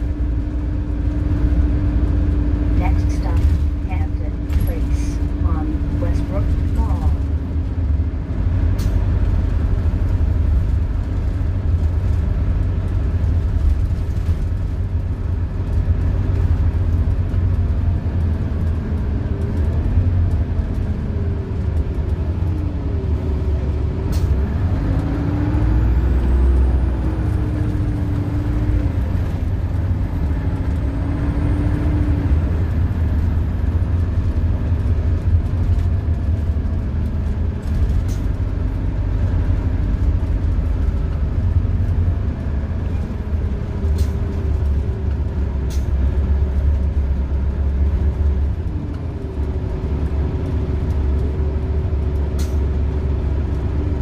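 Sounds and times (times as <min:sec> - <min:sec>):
bus engine drone: 0:00.0 - 0:54.0
road rumble: 0:00.0 - 0:54.0.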